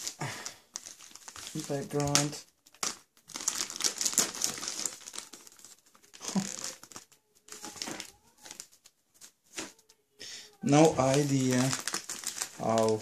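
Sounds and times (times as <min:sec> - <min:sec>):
plastic mailer bag crinkling: 0:00.0 - 0:13.0.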